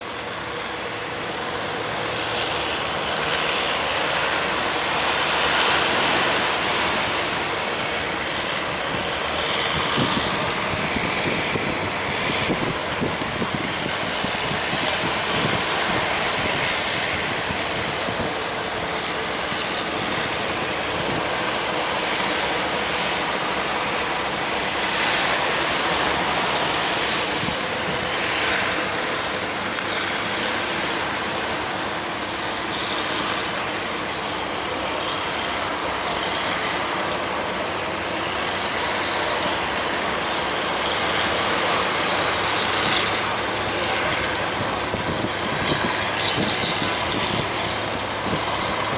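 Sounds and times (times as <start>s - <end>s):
waves breaking: 0.0s - 48.9s.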